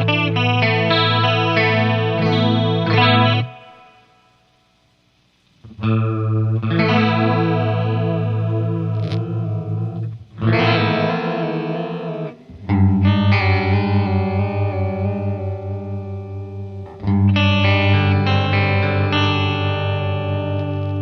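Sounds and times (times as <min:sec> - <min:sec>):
electric guitar chords with chorus: 0:00.0 - 0:04.5, 0:05.6 - 0:21.0.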